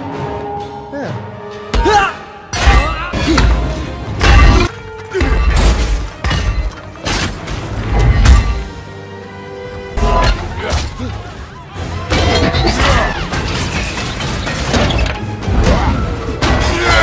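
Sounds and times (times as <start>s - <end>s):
film music score: 0.0s - 17.0s.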